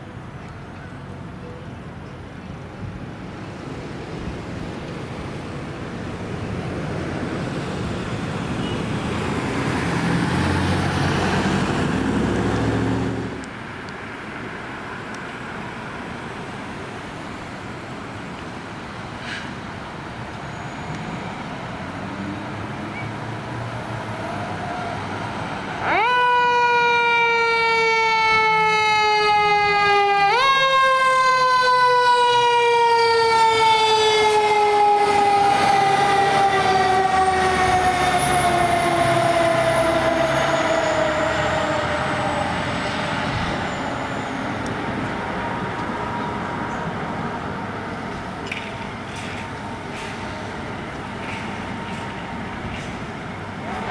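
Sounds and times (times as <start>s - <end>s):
traffic and engine noise: 0.0s - 53.9s.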